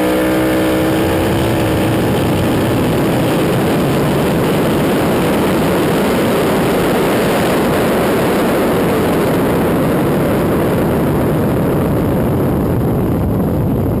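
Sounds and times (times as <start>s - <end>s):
car engine rumble: 0.0s - 14.0s.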